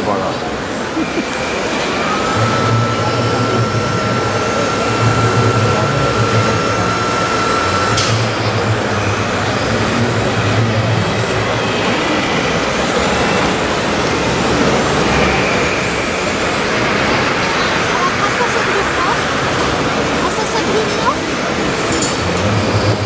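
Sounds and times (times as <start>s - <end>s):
diesel truck engine sound: 0.0s - 23.0s
hall noise: 0.0s - 23.0s
thin steady whine: 0.0s - 23.0s.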